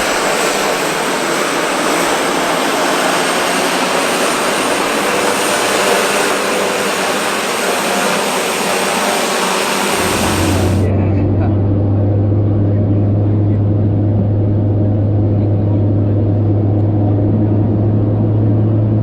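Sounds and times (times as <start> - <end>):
aircraft engines at takeoff power: 0.0 - 19.0.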